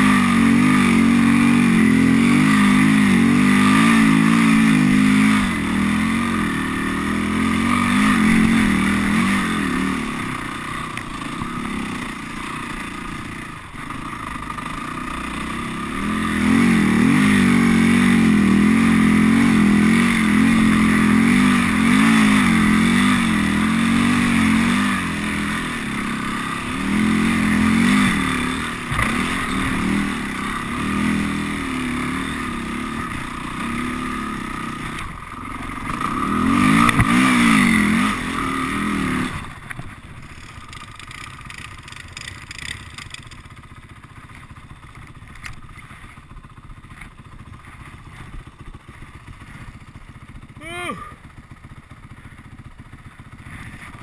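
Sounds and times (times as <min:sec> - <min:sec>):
quad engine revving: 0:00.0 - 0:43.2, 0:50.5 - 0:51.3
tyres churning through snow: 0:00.0 - 0:54.0.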